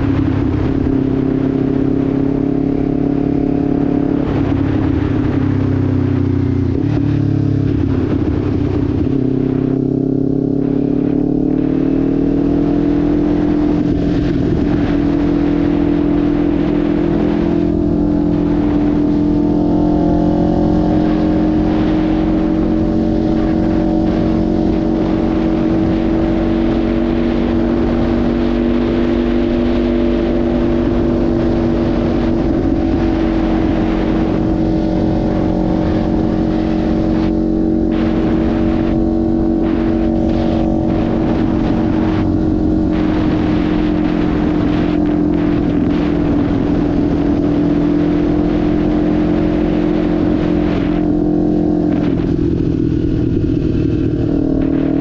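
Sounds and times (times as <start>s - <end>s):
motorcycle engine cruising: 0.0s - 55.0s
steady rushing noise: 0.0s - 55.0s.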